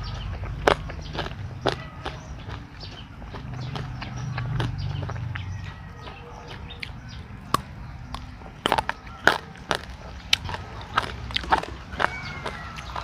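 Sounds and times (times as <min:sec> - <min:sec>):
mouth clicks: 0:00.0 - 0:13.0
person chewing crunchy food: 0:00.0 - 0:13.0.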